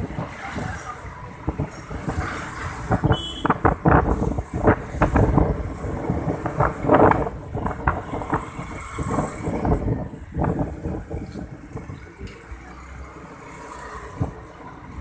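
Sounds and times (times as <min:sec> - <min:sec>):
wind buffeting microphone: 0:00.0 - 0:12.3
vehicle rumble on road: 0:00.0 - 0:15.0.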